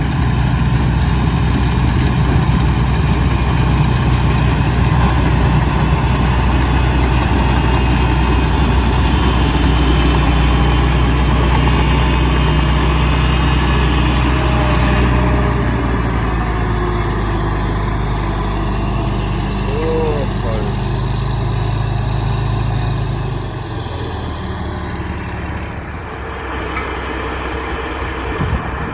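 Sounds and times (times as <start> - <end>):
combine harvester engine humming: 0.0 - 28.9.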